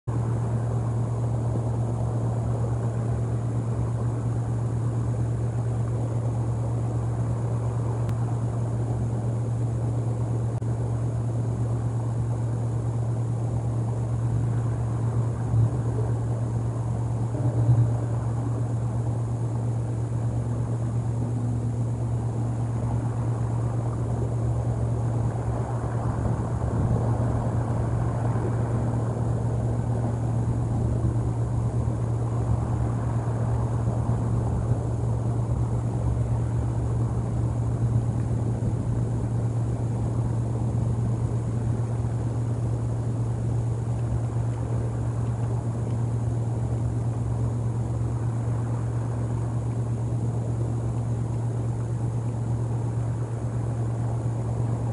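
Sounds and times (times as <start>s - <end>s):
low rumbling drone: 0.0s - 54.9s.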